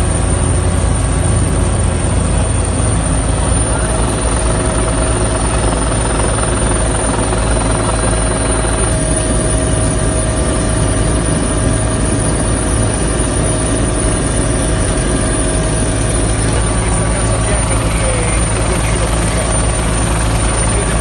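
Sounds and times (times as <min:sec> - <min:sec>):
helicopter engine and rotor drone: 0:00.0 - 0:21.0
helicopter turbine whine: 0:00.0 - 0:21.0.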